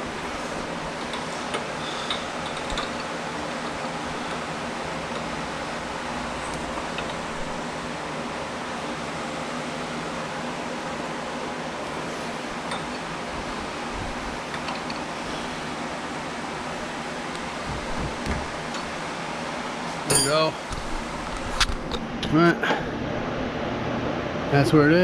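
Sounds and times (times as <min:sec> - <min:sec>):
fan-like background noise: 0:00.0 - 0:25.0.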